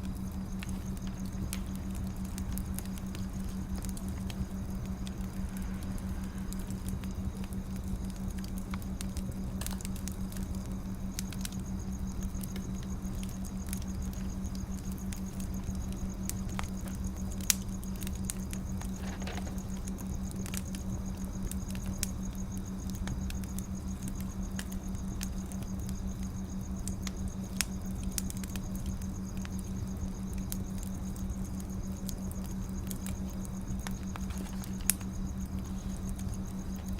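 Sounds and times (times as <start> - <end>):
firewood crackling and popping: 0.0 - 36.9
steady low hum: 0.0 - 36.9.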